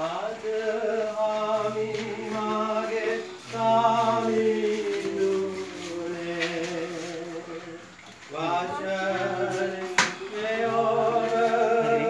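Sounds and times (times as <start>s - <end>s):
group singing a slow hymn: 0.0s - 12.0s.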